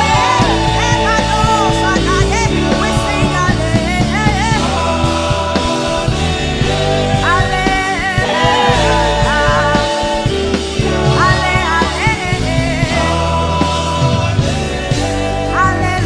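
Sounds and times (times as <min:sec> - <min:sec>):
person singing: 0:00.0 - 0:16.0
sustained instrumental backing: 0:00.0 - 0:16.0.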